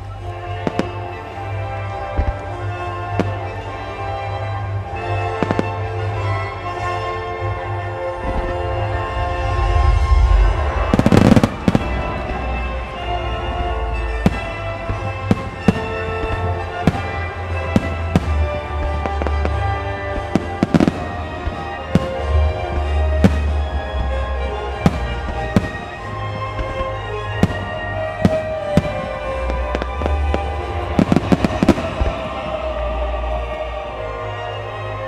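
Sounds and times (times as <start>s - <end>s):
music: 0.0s - 35.0s.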